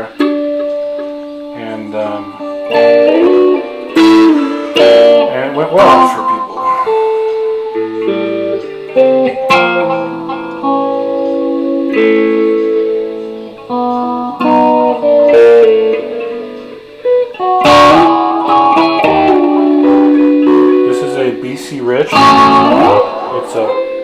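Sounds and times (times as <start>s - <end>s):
electric guitar played slowly: 0.0s - 24.0s
sharp guitar strum: 0.0s - 24.0s.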